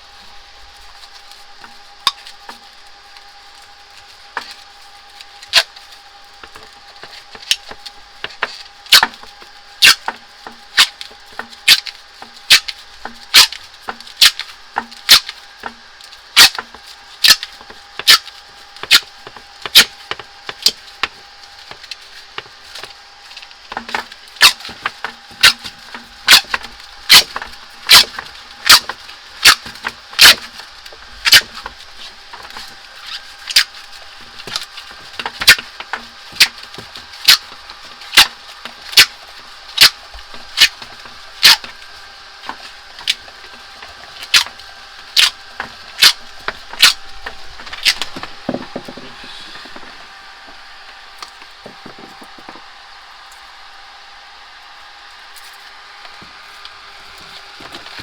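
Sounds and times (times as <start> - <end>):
tape pulled off roll crackling: 0.0 - 52.7.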